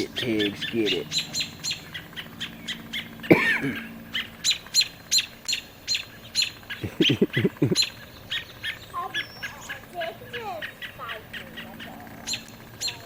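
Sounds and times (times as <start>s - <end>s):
bird alarm calls: 0.0s - 13.0s
harsh descending bird cry: 0.0s - 13.0s.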